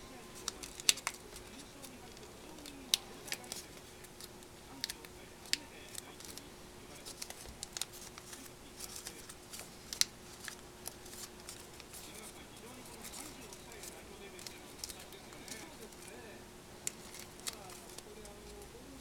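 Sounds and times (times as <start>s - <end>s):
faint steady hum: 0.0s - 19.0s
paper being folded and creased: 0.4s - 16.2s, 16.8s - 18.7s.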